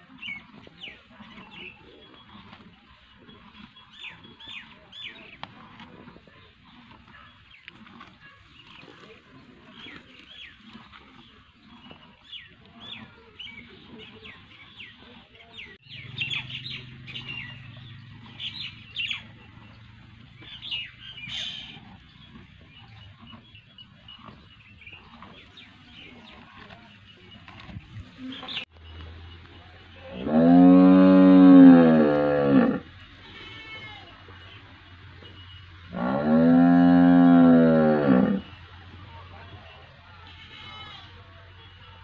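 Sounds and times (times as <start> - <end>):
small birds chirping: 0.0 - 30.8, 32.8 - 37.6.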